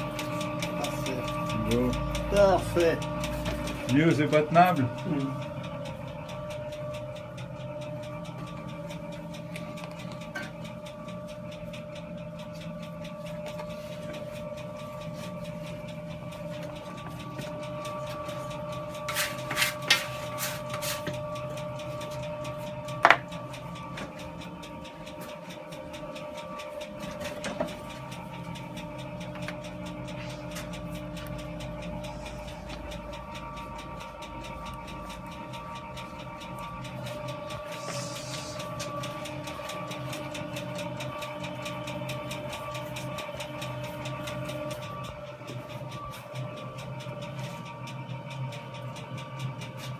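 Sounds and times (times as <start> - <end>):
small machine motor whining: 0.0 - 49.9.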